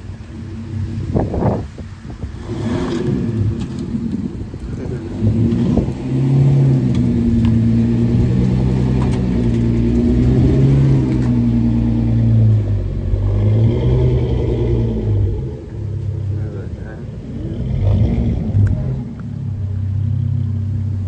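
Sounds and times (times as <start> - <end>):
vehicle engine revving low: 0.0 - 21.0.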